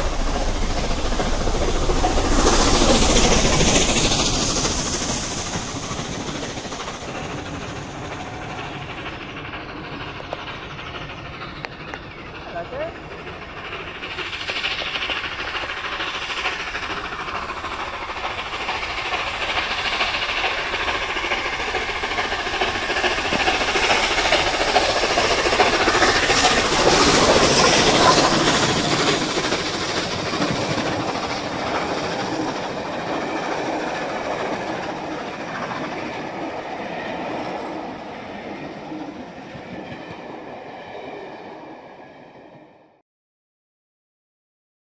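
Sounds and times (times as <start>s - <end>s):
train wheels clattering over rail joints: 0.0s - 38.0s
steam locomotive passing: 0.0s - 43.0s.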